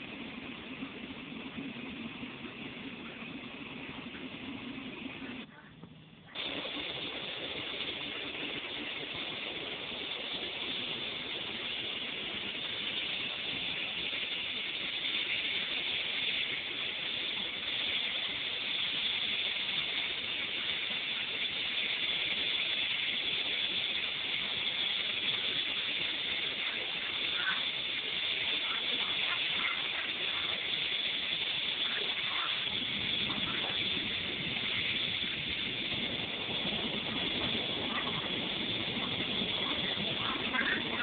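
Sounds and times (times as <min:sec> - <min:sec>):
airliner cabin engine rush: 0:00.0 - 0:05.5, 0:06.3 - 0:41.0.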